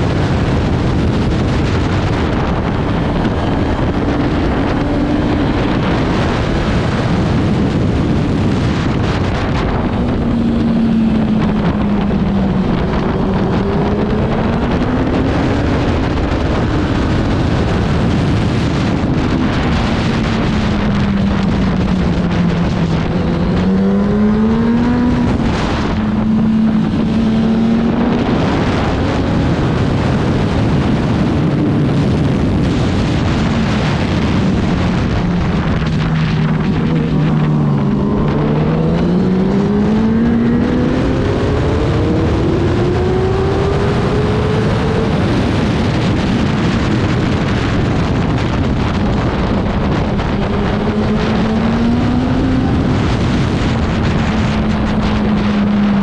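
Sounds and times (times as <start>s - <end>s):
racing motorcycle engine: 0.0s - 56.0s
wind rush on microphone: 0.0s - 56.0s.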